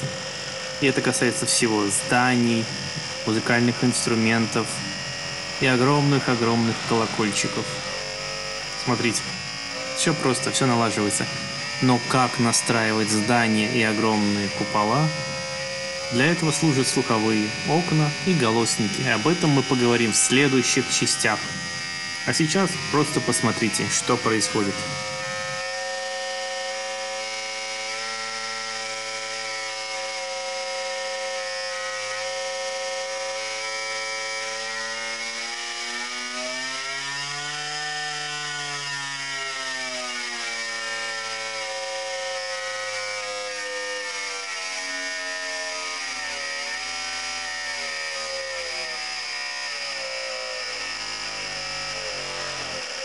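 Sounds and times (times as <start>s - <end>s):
testing machine humming: 0.0s - 53.0s.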